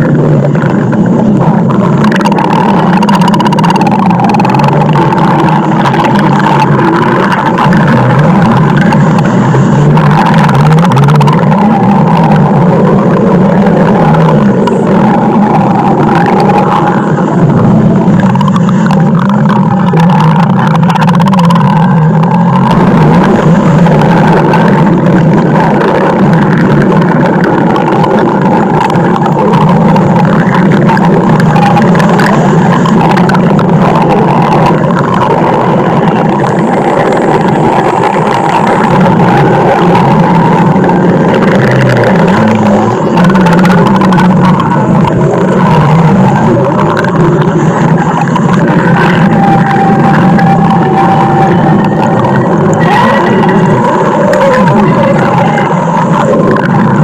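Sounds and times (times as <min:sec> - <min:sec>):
stomach growling: 0:00.0 - 0:57.0.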